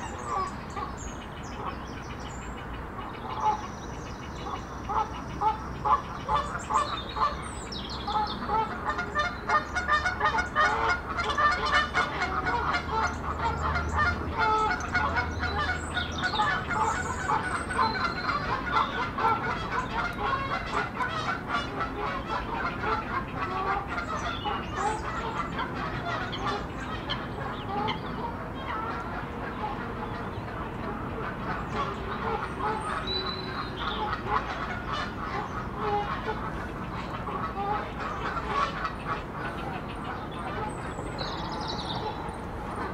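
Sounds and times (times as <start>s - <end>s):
small birds chirping: 0.0s - 21.4s, 22.0s - 42.9s
waterfowl calling: 0.0s - 42.9s.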